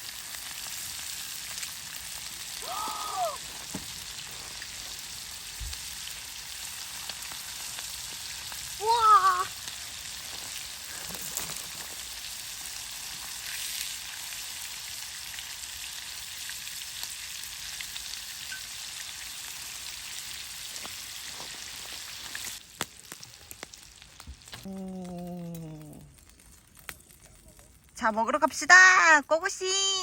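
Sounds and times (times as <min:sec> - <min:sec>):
steak sizzling in a pan: 0:00.0 - 0:24.6.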